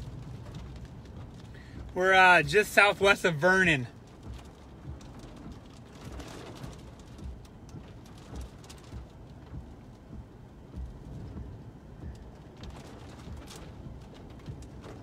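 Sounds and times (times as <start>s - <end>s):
rain pattering on windshield: 0.0s - 15.0s
road rumble: 0.0s - 15.0s
windshield wipers: 0.0s - 15.0s.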